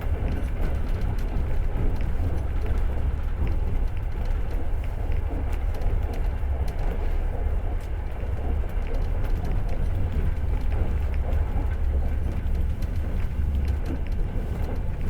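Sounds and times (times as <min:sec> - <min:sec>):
train carriage rumbling on track: 0:00.0 - 0:15.0.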